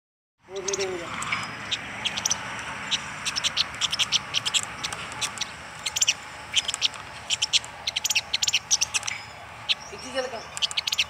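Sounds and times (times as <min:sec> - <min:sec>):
small bird chirping: 0:00.4 - 0:11.0.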